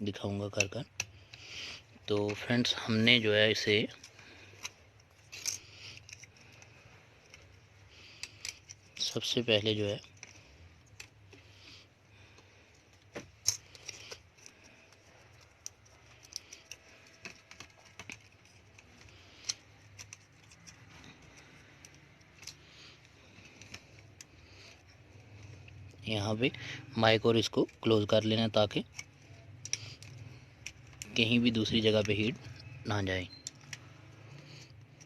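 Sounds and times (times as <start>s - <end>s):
small tools clicking and tapping: 0.1s - 2.8s, 3.4s - 26.1s, 27.2s - 35.0s.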